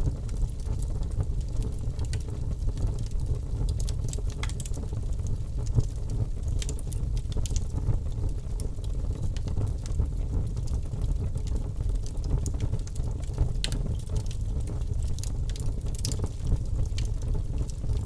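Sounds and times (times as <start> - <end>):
wood fire crackling: 0.1 - 18.0.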